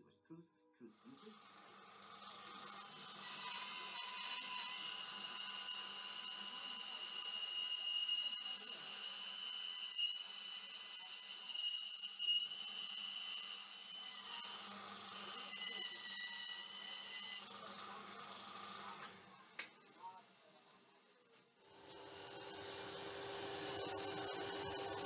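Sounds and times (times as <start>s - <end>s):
bandsaw cutting wood: 1.1s - 20.2s, 21.6s - 25.0s.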